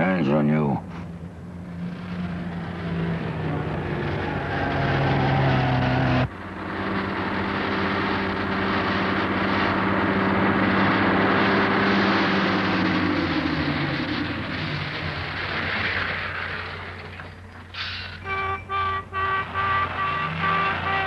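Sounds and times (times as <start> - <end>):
steady engine drone: 0.0 - 21.0
vehicle engine running: 0.8 - 17.7.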